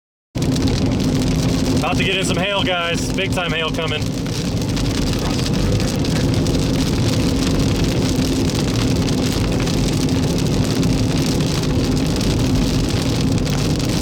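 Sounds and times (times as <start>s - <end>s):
car road and engine noise: 0.4s - 14.0s
rain striking vehicle: 0.4s - 14.0s.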